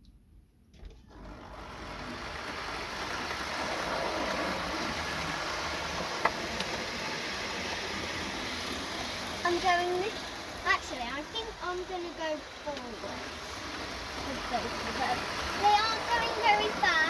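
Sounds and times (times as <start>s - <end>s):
model trains running on track: 1.3s - 17.0s.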